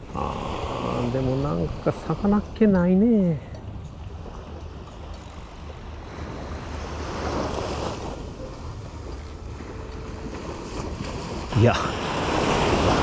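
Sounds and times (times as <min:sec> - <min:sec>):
steady low rumble: 0:00.0 - 0:12.2
small waves washing up beach: 0:00.0 - 0:13.0.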